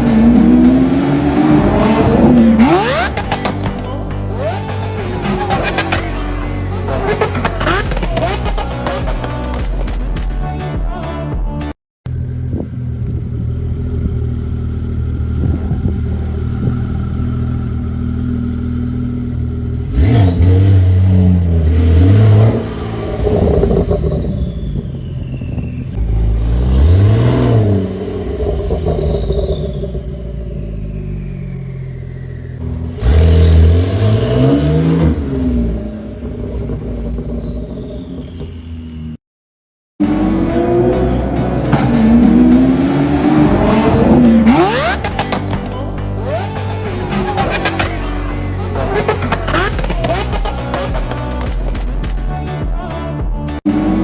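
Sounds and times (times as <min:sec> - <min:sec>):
car engine idling and revving: 0:00.0 - 0:10.5, 0:12.1 - 0:39.2, 0:40.0 - 0:52.6.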